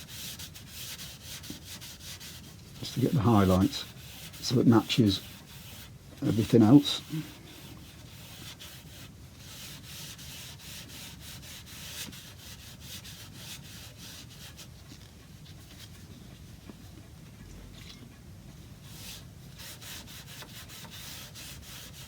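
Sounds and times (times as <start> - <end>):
cloth rubbing on wood: 0.0 - 15.1, 18.9 - 22.0.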